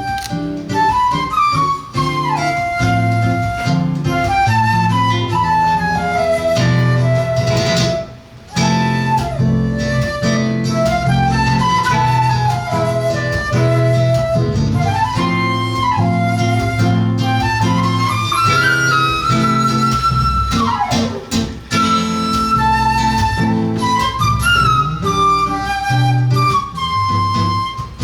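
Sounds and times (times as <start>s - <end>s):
flute melody: 0.0s - 28.0s
guitar bass lines and chords: 2.2s - 28.0s.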